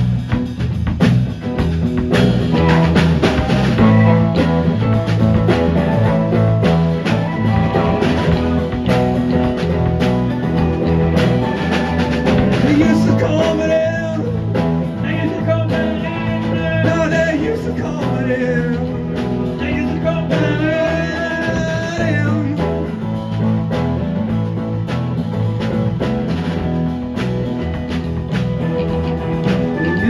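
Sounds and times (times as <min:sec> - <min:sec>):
blues-rock band playing: 0:00.0 - 0:30.0
wavering lead guitar melody: 0:01.4 - 0:30.0.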